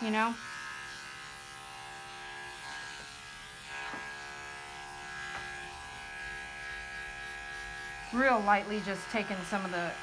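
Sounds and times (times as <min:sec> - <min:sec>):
electric clippers buzzing: 0:00.0 - 0:10.0.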